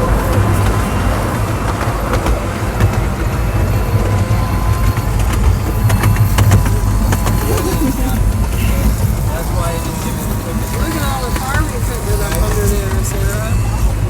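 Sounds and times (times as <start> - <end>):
train rumbling on board: 0.0 - 14.0.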